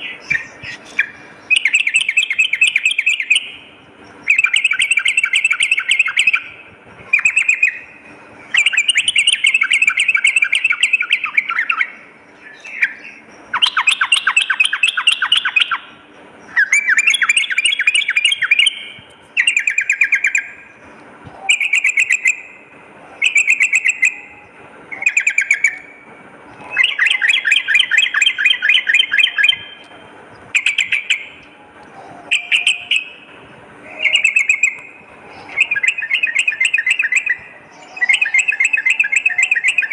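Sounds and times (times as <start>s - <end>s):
bird bubbly chattering song: 0.0s - 39.9s.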